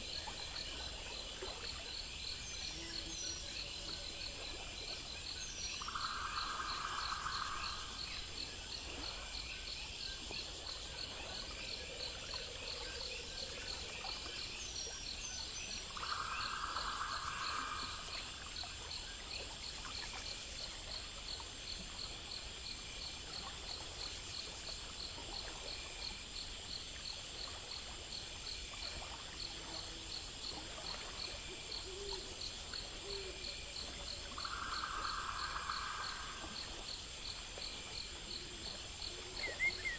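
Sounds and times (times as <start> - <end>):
crickets and insects trilling: 0.0 - 39.9
lower buzzy insect call: 0.0 - 39.9.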